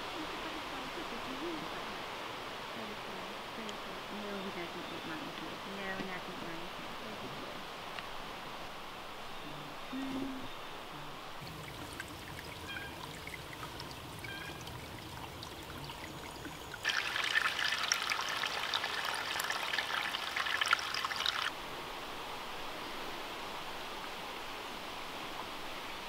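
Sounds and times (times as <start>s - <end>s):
creek trickling over rocks: 0.0s - 26.0s
faint outdoor hiss: 0.0s - 26.0s.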